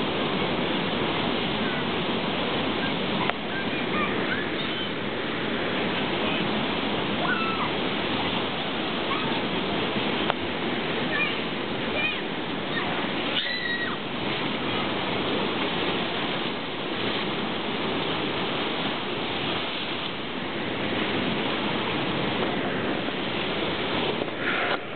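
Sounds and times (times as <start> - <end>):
sea surf breaking over rocks: 0.0 - 24.9.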